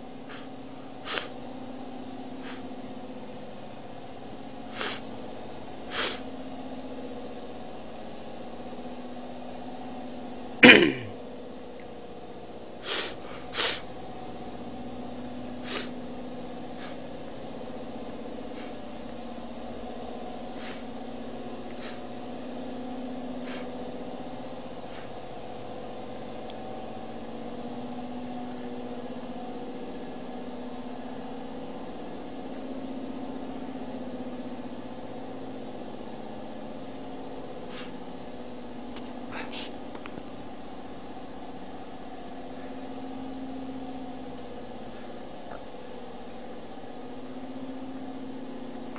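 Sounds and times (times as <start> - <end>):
conveyor machine hum: 0.0 - 48.9.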